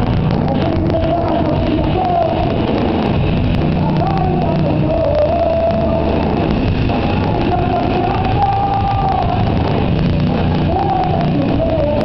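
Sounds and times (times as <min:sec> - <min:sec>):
drums: 0:00.0 - 0:12.0
electric guitar: 0:00.0 - 0:12.0
person singing long notes: 0:00.0 - 0:12.0.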